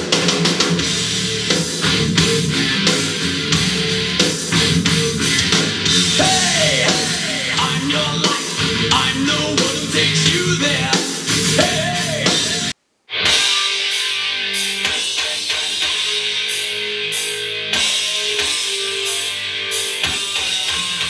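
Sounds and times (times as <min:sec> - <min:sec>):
rock music through speaker: 0:00.0 - 0:21.0.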